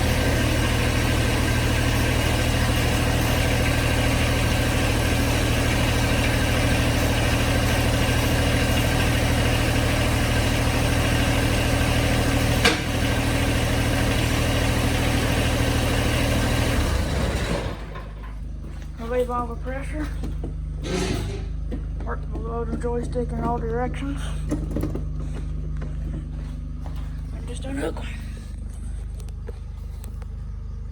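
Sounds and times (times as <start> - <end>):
tractor diesel engine idling: 0.0 - 30.9.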